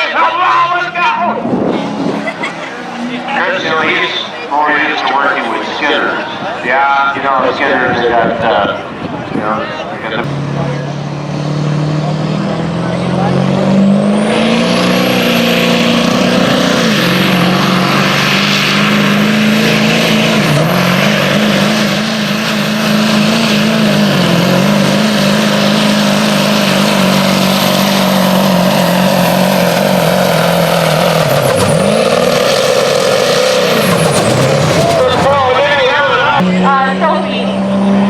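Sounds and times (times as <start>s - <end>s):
truck engine at high revs: 0.0s - 38.0s.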